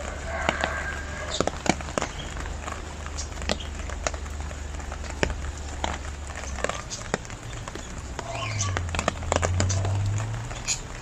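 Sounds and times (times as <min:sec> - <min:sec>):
low steady hum: 0:00.0 - 0:11.0
steady rain falling: 0:00.0 - 0:11.0.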